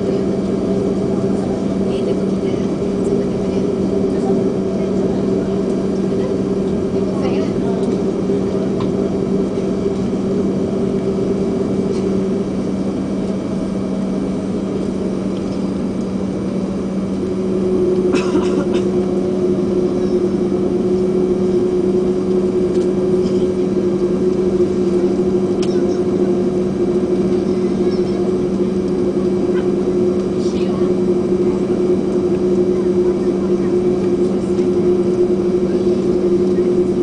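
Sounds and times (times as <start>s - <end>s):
jet engine cabin drone: 0.0s - 37.0s.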